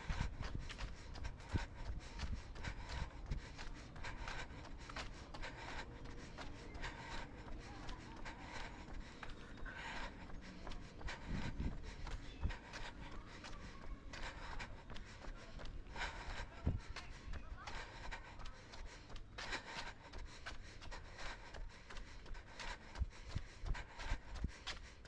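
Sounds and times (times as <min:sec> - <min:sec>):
person breathing: 0:00.0 - 0:25.0.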